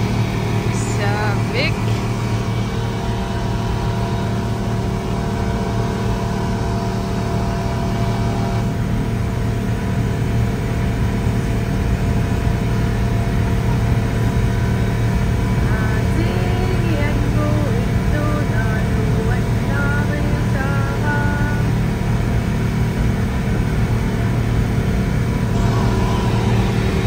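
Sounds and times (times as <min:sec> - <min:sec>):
motorboat engine drone: 0:00.0 - 0:27.0.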